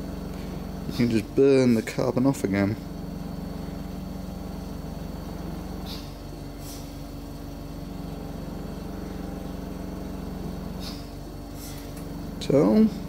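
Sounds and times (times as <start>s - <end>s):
torch burning with low hum: 0.0s - 13.0s.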